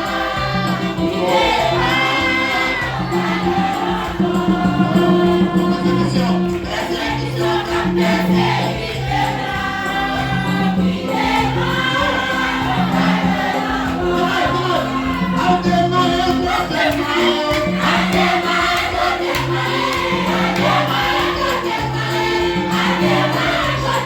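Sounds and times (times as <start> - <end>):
choir singing a hymn: 0.0 - 24.0
instrumental accompaniment: 0.0 - 24.0.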